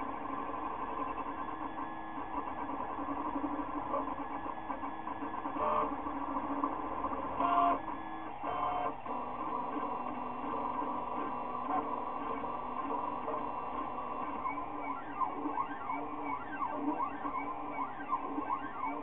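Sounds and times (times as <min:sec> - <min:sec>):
printer stepper motors whining: 0:00.0 - 0:19.0.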